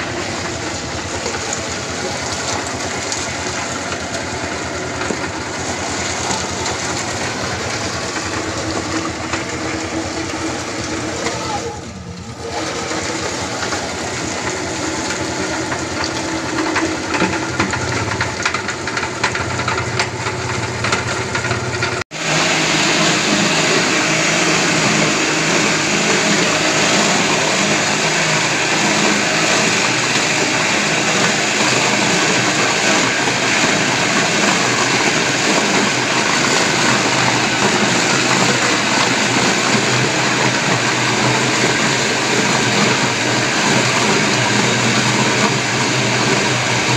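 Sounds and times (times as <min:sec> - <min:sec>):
bowl-cutter machine running: 0:00.0 - 0:46.9
electric meat grinder humming: 0:00.0 - 0:46.9.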